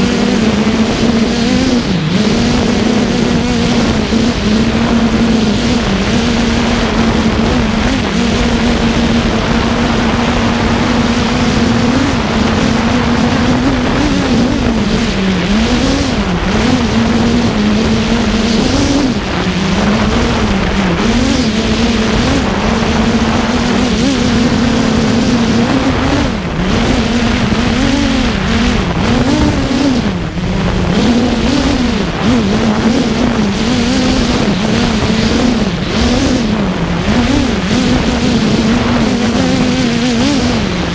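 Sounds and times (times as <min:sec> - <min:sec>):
drone motors humming: 0:00.0 - 0:40.9
wind rushing over microphone: 0:00.0 - 0:40.9.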